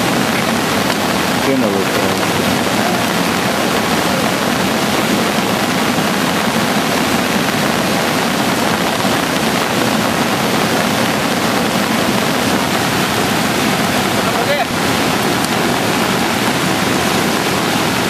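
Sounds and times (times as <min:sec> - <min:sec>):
floodwater rushing in river: 0:00.0 - 0:18.0.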